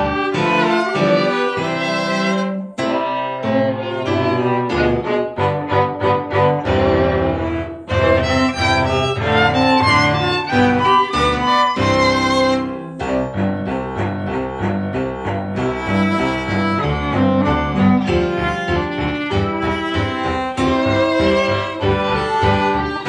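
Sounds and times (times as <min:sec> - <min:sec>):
piano quartet playing: 0:00.0 - 0:23.0.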